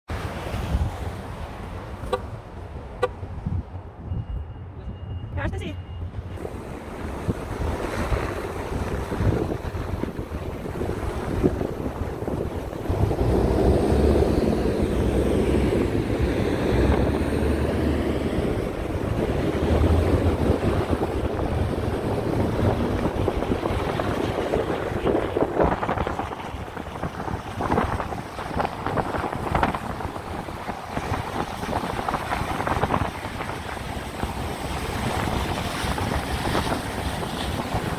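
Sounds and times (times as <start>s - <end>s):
tyres and engine rumble: 0.1s - 37.9s
wind noise: 0.1s - 37.9s.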